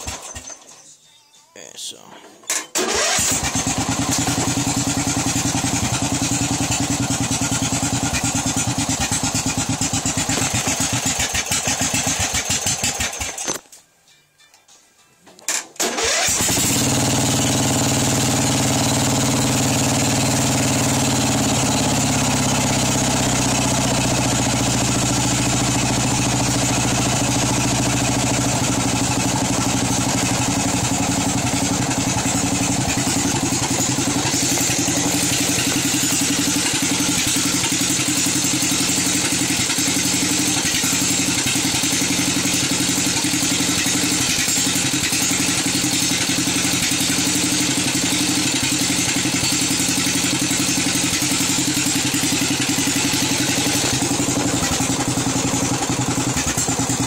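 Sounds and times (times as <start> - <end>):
riding mower engine running: 0.0 - 0.4, 2.7 - 13.6, 15.8 - 57.0.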